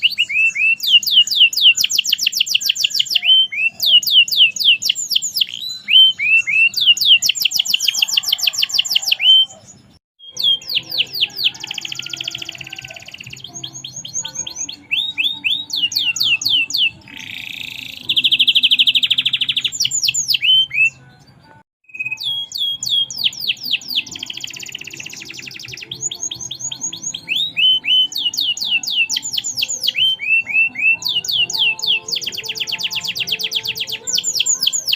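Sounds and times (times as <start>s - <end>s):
canary singing: 0.0s - 34.9s.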